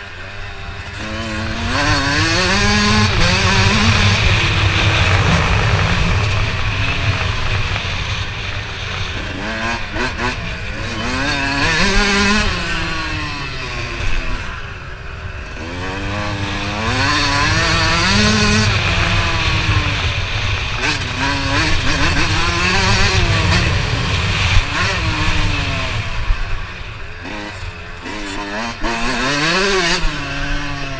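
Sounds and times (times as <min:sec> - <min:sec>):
motocross bike engines revving: 0:00.0 - 0:30.9.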